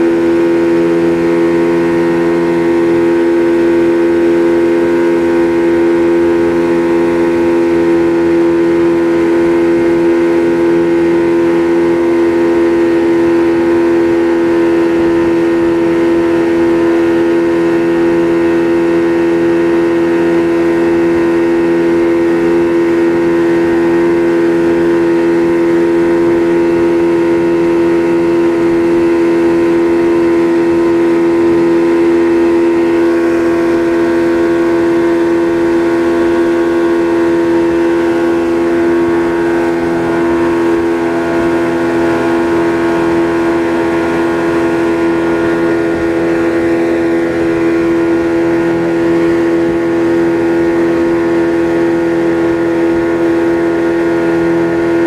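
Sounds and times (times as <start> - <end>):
outboard motor droning: 0.0 - 55.0
water rushing past hull: 0.0 - 55.0.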